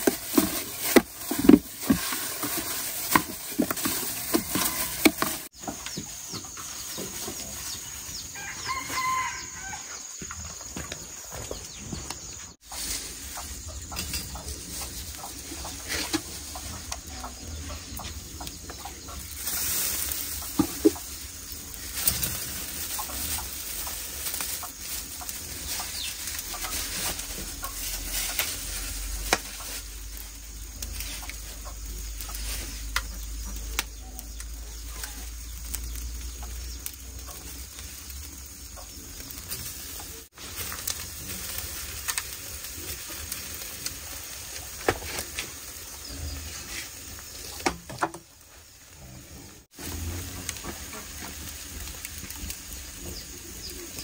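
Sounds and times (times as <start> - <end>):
meat sizzling on a grill: 0.0 - 10.0, 12.6 - 54.0
chickens clucking: 0.0 - 54.0
embers crackling: 0.0 - 54.0.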